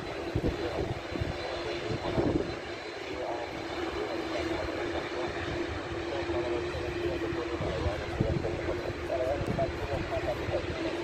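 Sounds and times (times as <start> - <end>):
wind buffeting microphone: 0.0 - 2.9, 3.5 - 11.0
turboprop engine and propeller drone: 0.0 - 11.0.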